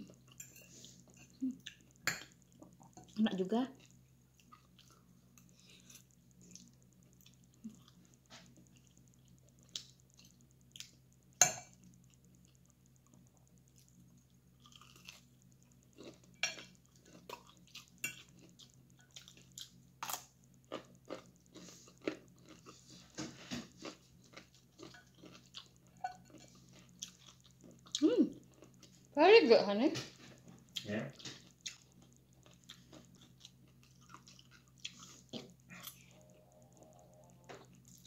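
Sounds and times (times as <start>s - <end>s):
faint low hum: 0.0s - 38.0s
person chewing crunchy food: 3.8s - 11.1s, 11.7s - 29.1s, 30.1s - 38.0s.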